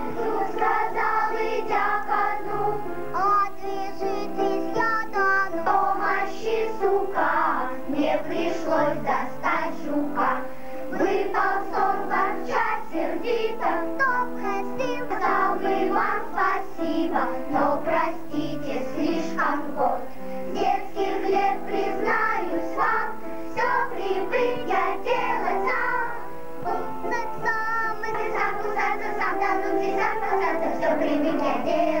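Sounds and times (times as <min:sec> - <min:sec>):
girls choir singing: 0:00.0 - 0:32.0.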